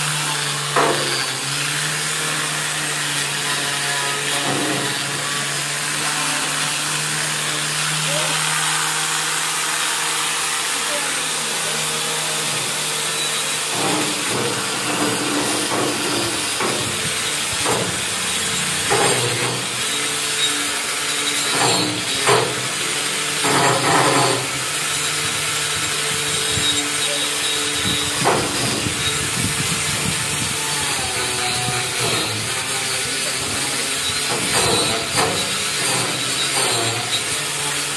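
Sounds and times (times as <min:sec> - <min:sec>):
power tool grinding metal: 0:00.0 - 0:37.9.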